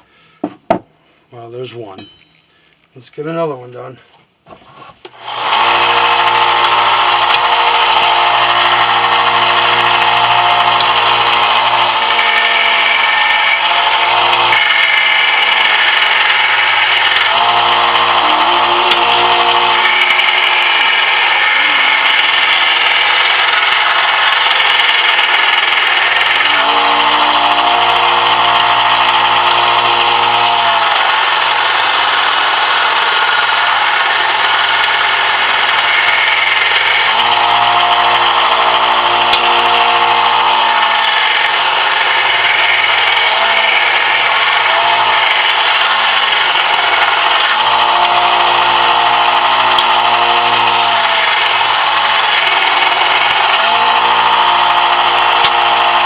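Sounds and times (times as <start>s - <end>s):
electric sander grinding metal: 5.2s - 56.0s.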